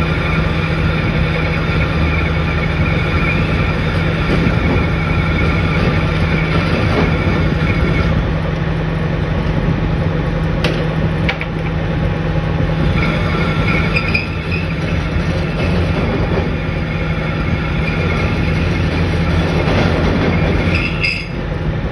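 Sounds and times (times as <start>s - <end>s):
lathe cutting tone: 0.0s - 8.7s, 12.5s - 21.9s
lathe machine hum: 0.0s - 21.9s.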